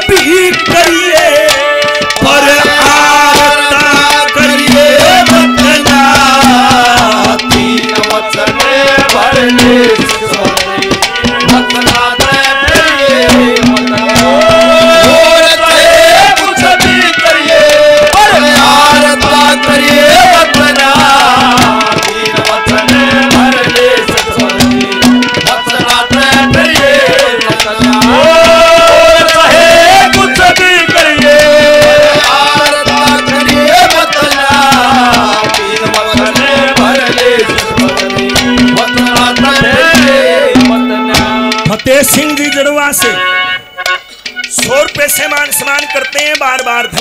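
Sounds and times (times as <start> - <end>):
hand drum rhythm: 0.0 - 43.2, 44.2 - 47.0.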